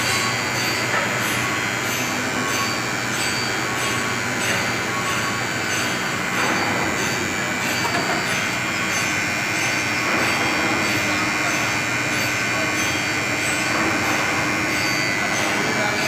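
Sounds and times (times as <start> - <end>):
machine running: 0.0 - 16.0.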